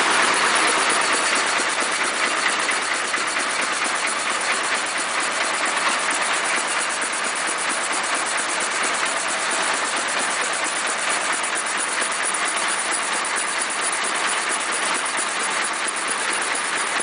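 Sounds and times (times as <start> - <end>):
diesel engine clattering: 0.0 - 17.0.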